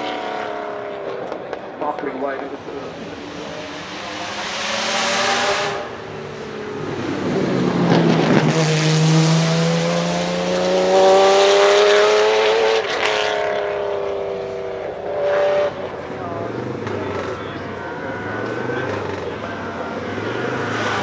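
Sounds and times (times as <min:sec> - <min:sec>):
race car accelerating past: 0:02.6 - 0:21.0.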